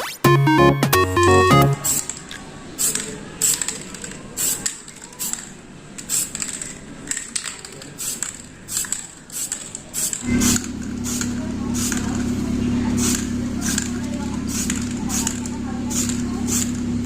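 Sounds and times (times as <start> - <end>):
spray paint can hissing: 1.8 - 17.0.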